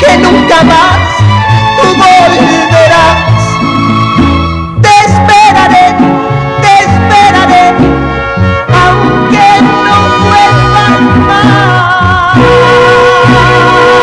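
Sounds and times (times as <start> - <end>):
bass line: 0.0 - 14.0
mariachi band playing: 0.0 - 14.0
trumpets playing melody: 0.0 - 14.0.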